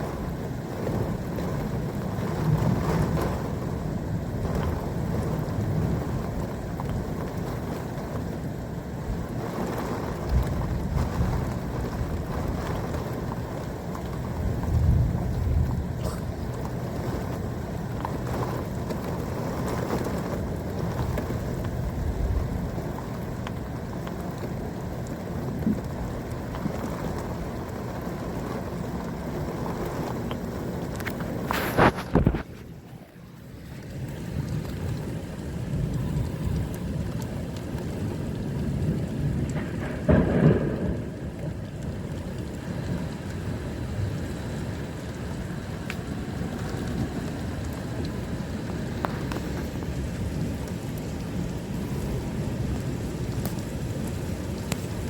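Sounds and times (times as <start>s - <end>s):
steady rain: 0.0s - 55.0s
thunder rumbling: 0.0s - 55.0s
wind: 0.0s - 55.0s.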